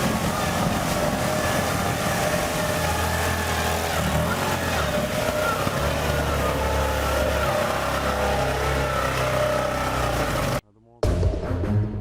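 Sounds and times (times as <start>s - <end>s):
heavy machine engine running: 0.0s - 10.6s.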